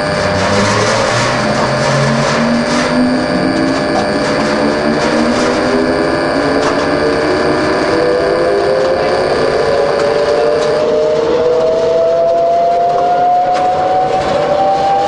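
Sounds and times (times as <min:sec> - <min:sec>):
wood chipper motor whine rising: 0:00.0 - 0:15.0.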